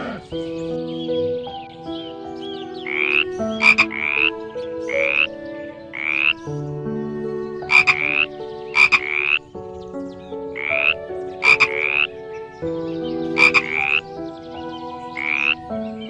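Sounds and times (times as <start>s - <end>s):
rising croaking calls: 0.0s - 16.0s.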